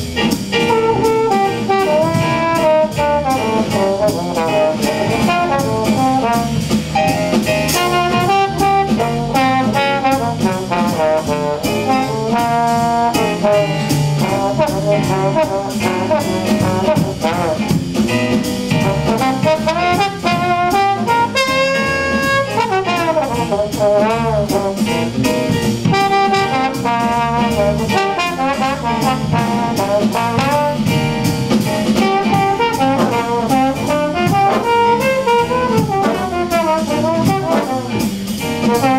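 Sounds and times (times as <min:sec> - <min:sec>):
drum kit cymbals: 0:00.0 - 0:38.9
jazz trombone solo: 0:00.0 - 0:38.9
rhythm section: 0:00.0 - 0:38.9.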